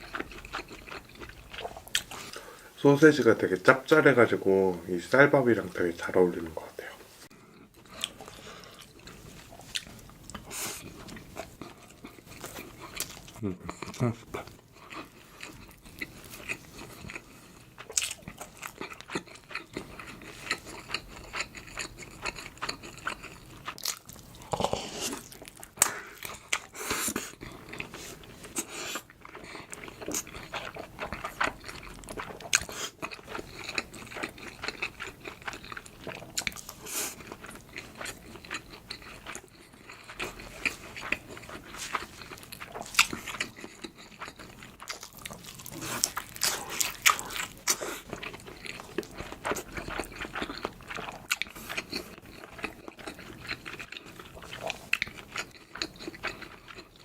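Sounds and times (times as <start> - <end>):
mouth chewing and smacking: 0.0 - 2.5, 7.5 - 57.0.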